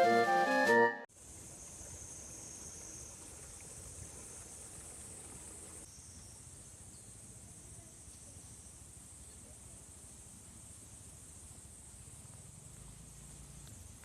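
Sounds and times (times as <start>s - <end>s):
insects chirring: 1.1s - 14.0s.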